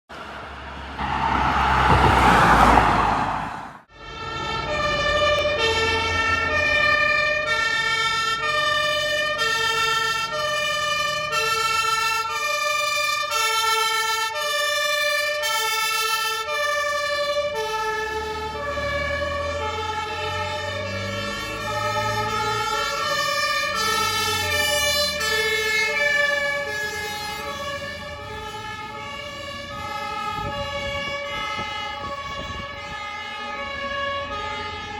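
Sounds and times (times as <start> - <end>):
truck engine rumbling: 0.1 - 34.9
two-tone emergency sirens: 0.2 - 34.9.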